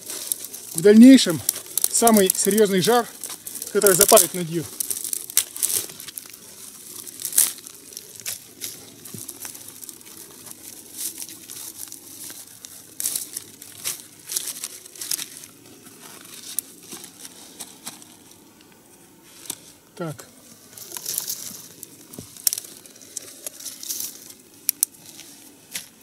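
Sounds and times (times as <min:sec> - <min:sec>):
dry twigs snapping: 0:00.0 - 0:18.8, 0:20.5 - 0:26.0
branches rustling: 0:00.0 - 0:26.0.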